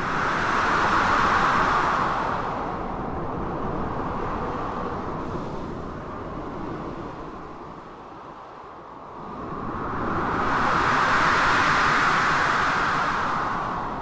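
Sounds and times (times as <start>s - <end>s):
blizzard wind: 0.0s - 14.0s.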